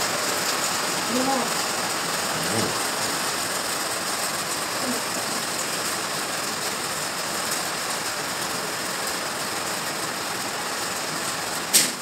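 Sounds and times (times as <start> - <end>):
heavy rain and hail falling: 0.0 - 12.0.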